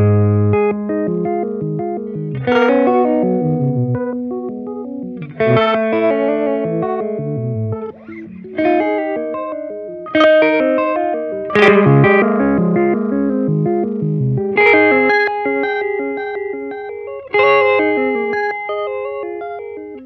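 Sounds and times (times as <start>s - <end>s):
electric guitar arpeggiated chords: 0.0s - 20.0s.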